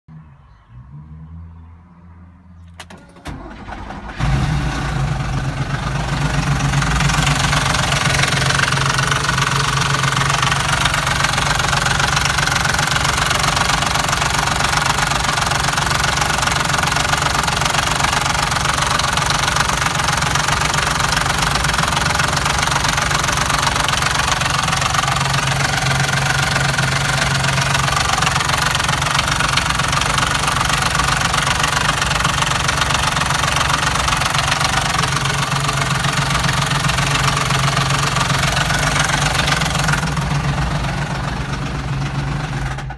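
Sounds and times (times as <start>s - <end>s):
engine cranking on starter: 2.6s - 42.9s
engine running with loud knocking: 3.3s - 42.9s.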